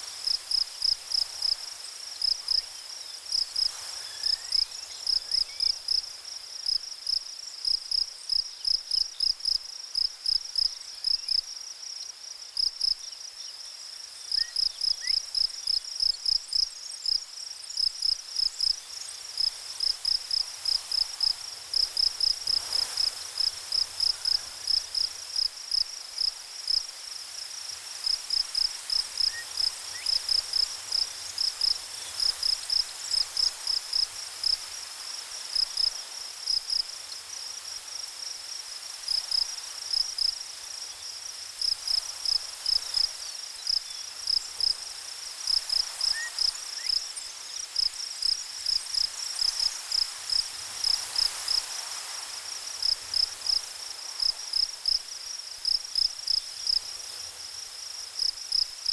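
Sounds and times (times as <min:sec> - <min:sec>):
insect chirping: 0:00.1 - 0:58.9.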